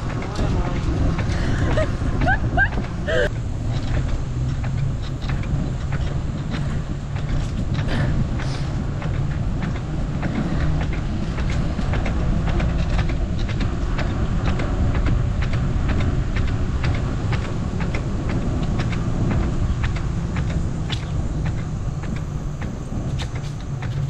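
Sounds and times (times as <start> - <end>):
bicycle clicks and rattles: 0.0 - 24.0
wind on microphone: 0.0 - 24.0.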